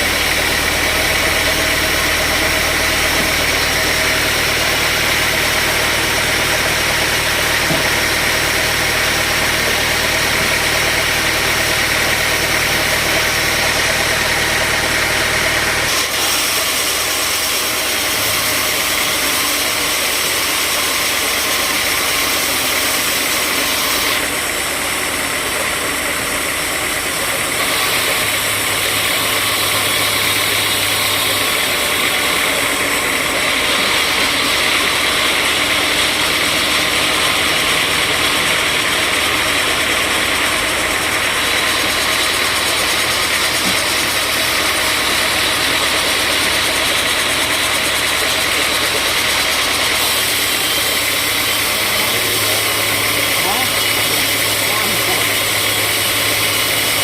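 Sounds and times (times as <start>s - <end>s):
sawmill machinery hiss: 0.0s - 57.0s.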